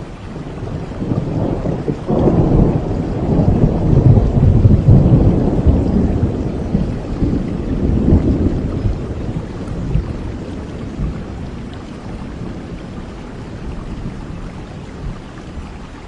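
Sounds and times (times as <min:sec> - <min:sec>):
thunder rolling: 0:00.0 - 0:13.2
steady rain: 0:00.0 - 0:16.0.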